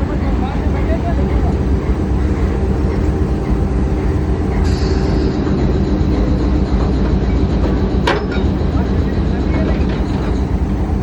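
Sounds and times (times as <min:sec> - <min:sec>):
locomotive rumbling: 0:00.0 - 0:11.0.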